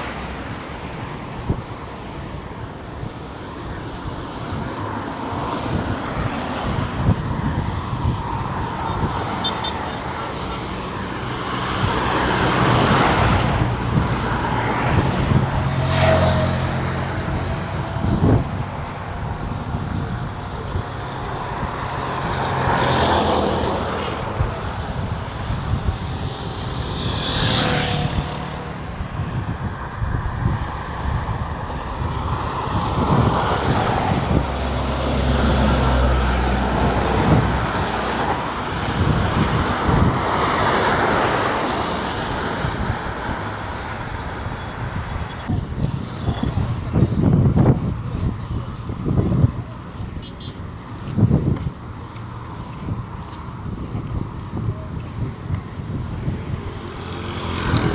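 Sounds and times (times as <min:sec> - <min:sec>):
cars and trucks passing by: 0:00.0 - 0:57.9
highway traffic rumble: 0:00.0 - 0:57.9.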